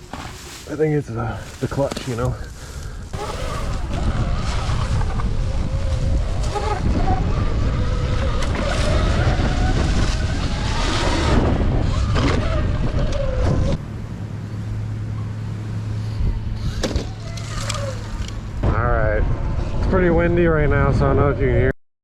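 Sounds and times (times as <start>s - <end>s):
wind buffeting microphone: 0.8s - 13.8s, 16.2s - 21.7s.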